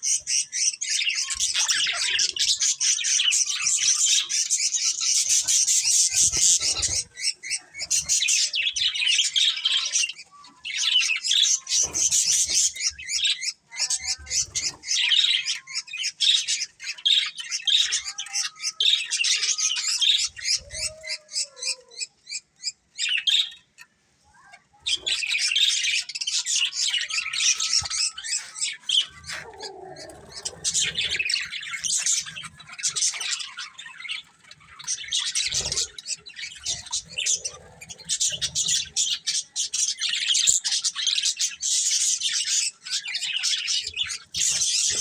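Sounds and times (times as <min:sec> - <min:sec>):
budgerigars chirping: 0:00.0 - 0:23.7, 0:24.4 - 0:45.0.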